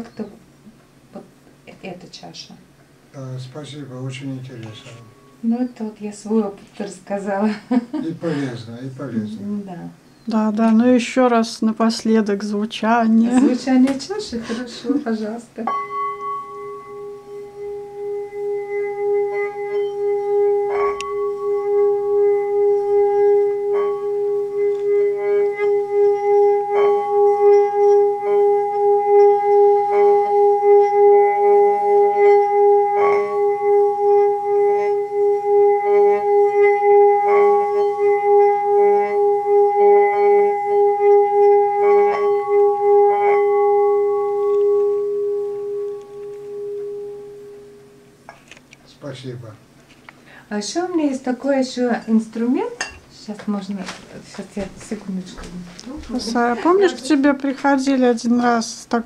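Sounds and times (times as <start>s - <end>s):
singing bowl ringing hum: 3.2s - 48.4s, 50.5s - 59.0s.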